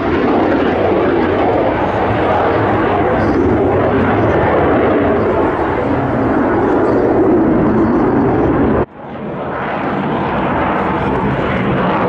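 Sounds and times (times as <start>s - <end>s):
fighter jet engine noise: 0.0s - 12.0s.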